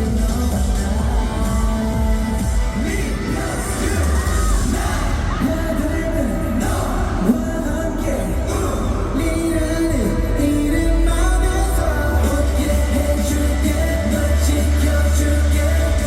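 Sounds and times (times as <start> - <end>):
person singing: 0.0 - 16.0
pop dance track over loudspeakers: 0.0 - 16.0.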